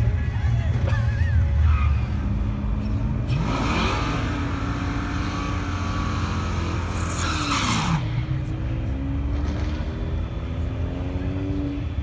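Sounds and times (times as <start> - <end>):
car engine revving: 1.7 - 12.0.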